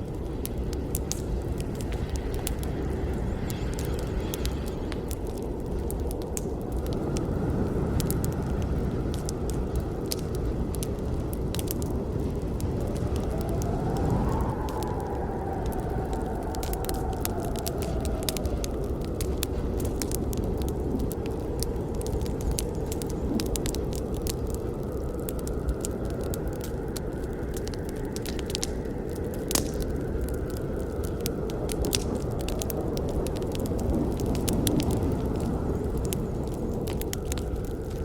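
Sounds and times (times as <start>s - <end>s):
campfire crackles and pops: 0.0s - 38.0s
low rush of flames: 0.0s - 38.0s.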